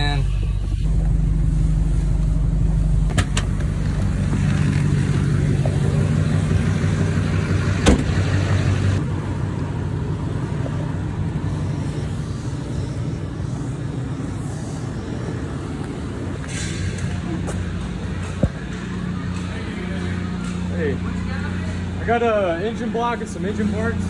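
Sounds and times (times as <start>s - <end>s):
engines rumbling: 0.0s - 24.0s.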